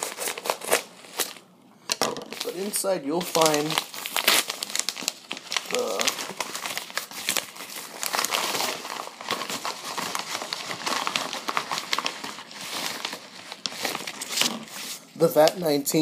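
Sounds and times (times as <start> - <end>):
paper crinkling and rustling: 0.0 - 1.4, 2.2 - 15.8.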